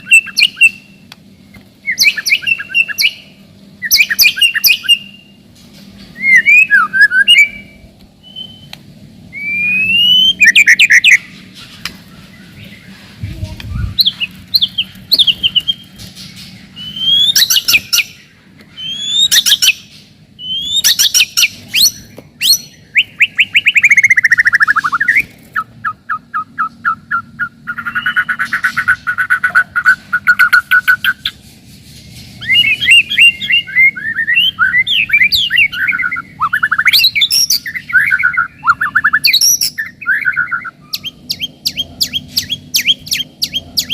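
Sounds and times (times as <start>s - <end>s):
bird singing whistles and trills: 0.0s - 1.0s, 1.8s - 5.4s, 6.2s - 11.3s, 13.6s - 16.0s, 16.7s - 31.3s, 32.4s - 43.9s.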